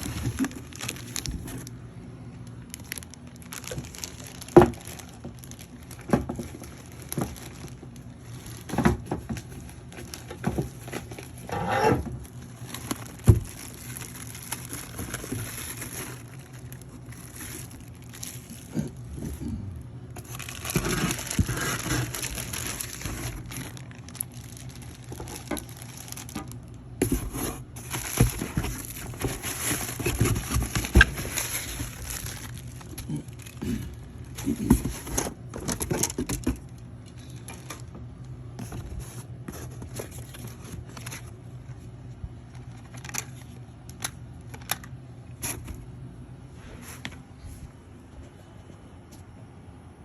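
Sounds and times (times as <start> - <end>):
packaging crinkling and tearing: 0.0 - 45.8.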